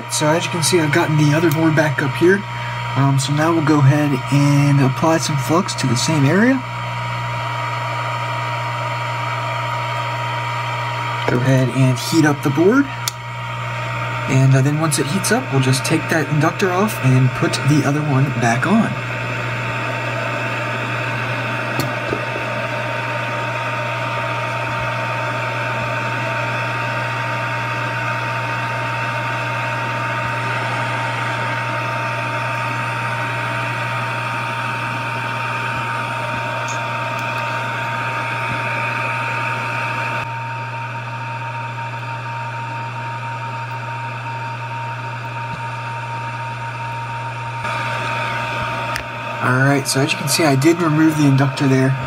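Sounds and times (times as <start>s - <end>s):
hot-air station whirring hum: 0.0s - 52.0s
thin whine: 0.0s - 52.0s.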